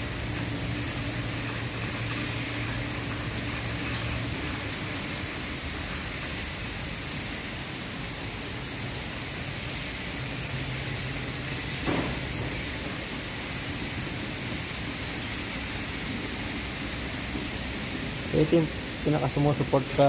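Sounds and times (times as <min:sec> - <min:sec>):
steady hissing: 0:00.0 - 0:20.0.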